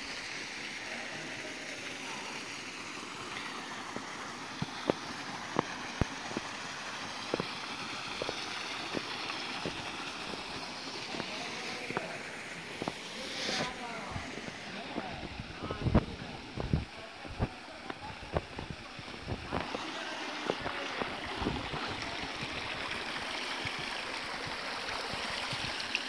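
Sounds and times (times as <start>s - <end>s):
small waterfall rushing: 0.0s - 26.0s.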